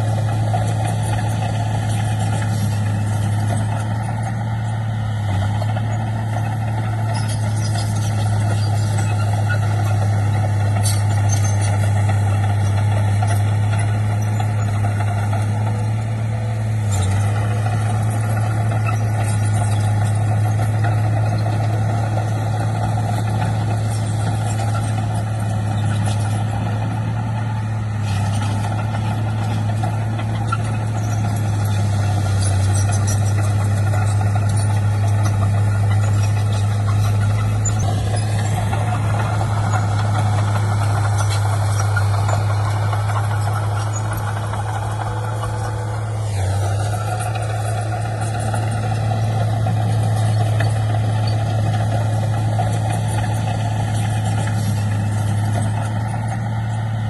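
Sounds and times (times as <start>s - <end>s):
heavy diesel engine humming: 0.0s - 57.0s.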